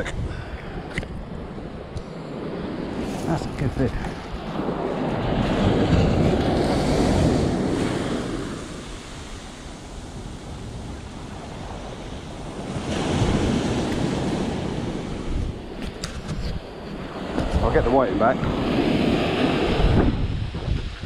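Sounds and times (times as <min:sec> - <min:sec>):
wind buffeting microphone: 0:00.0 - 0:21.0
waves washing onto beach: 0:00.4 - 0:21.0.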